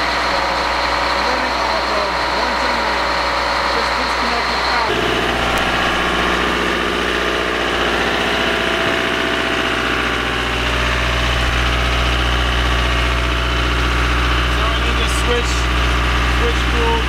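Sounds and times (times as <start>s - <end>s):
diesel generator drone: 0.0s - 17.0s.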